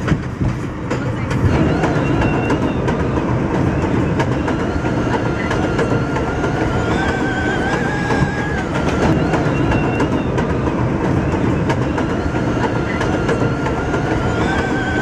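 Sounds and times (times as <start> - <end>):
train rumble: 0.0 - 15.0
train wheels clattering over rail joints: 0.0 - 15.0.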